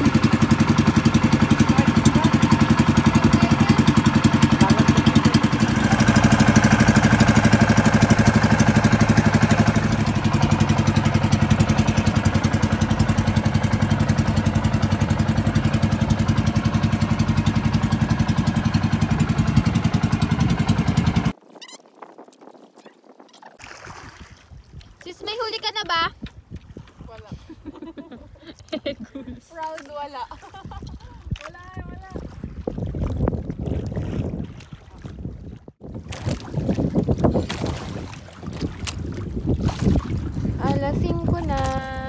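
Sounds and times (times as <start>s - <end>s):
boat engine running: 0.0s - 21.4s, 29.0s - 42.0s.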